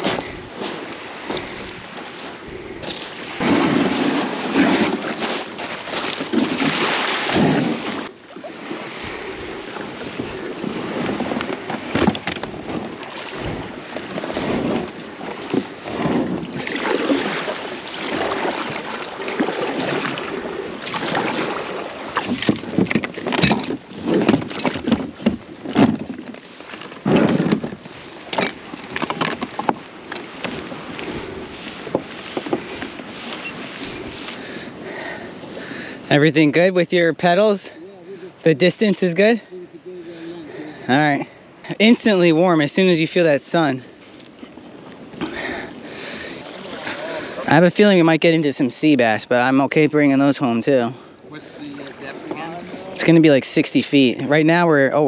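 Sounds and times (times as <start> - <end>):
water splashing against kayak: 0.0 - 39.4, 40.0 - 55.0.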